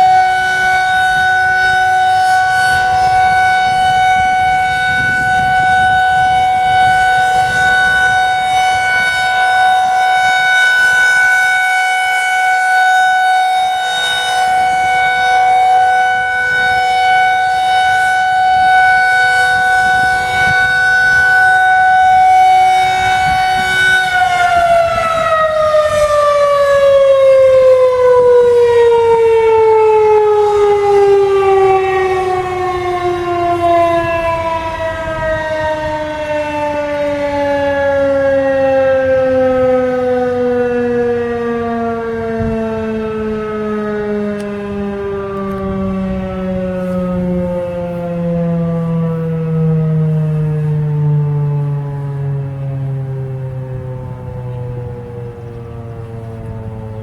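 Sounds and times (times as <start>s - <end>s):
warning siren steady tone: 0.0s - 57.0s.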